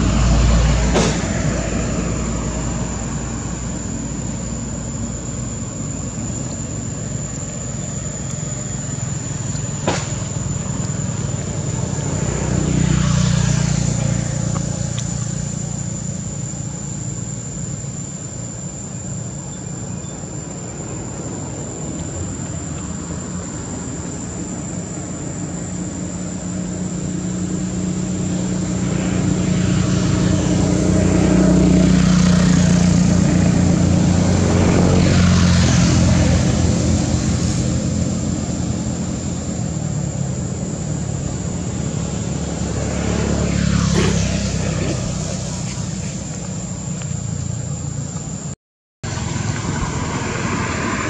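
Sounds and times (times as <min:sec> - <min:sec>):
passing motor engine drone: 0:00.0 - 0:19.2, 0:19.8 - 0:48.2, 0:49.0 - 0:51.0
high-pitched whine: 0:00.0 - 0:51.0.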